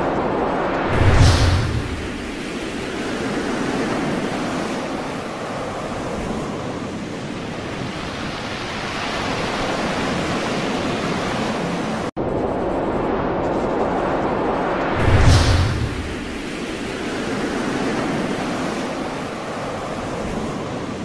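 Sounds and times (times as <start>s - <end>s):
heavy seas: 0.0s - 21.0s
storm wind roaring: 0.0s - 21.0s.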